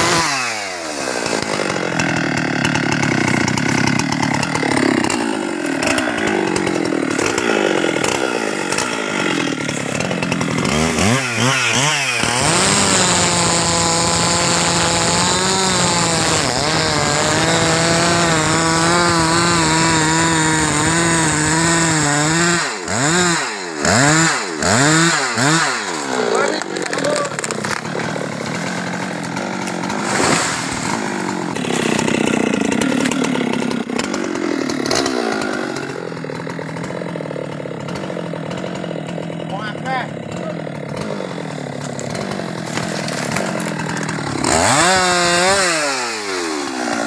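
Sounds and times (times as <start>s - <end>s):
chainsaw cutting wood: 0.0s - 47.0s
chainsaw engine revving: 0.0s - 47.0s.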